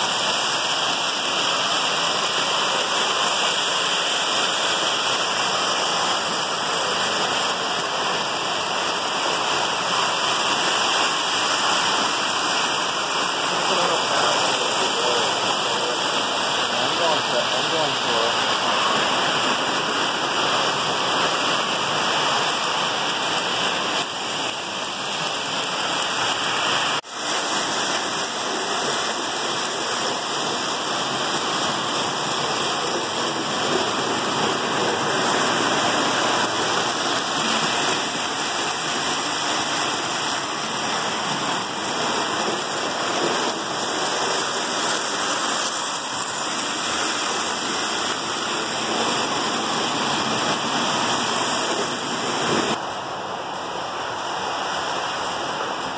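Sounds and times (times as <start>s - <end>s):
model trains whirring on metal track: 0.0s - 26.2s, 27.2s - 52.8s.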